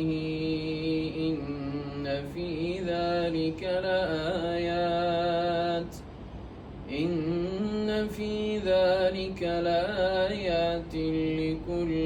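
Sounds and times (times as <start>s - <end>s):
man chanting melodically: 0.0s - 6.0s, 6.9s - 12.0s.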